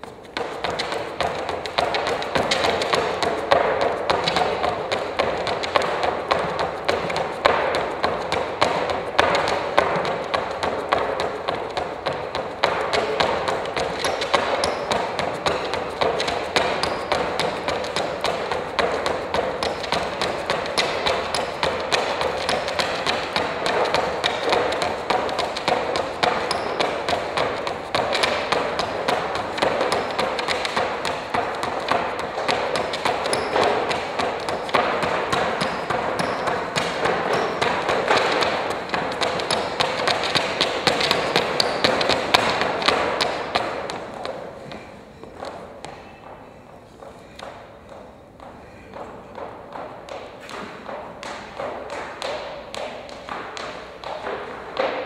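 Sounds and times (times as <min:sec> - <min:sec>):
rapid tapping and clicking: 0:00.0 - 0:44.5.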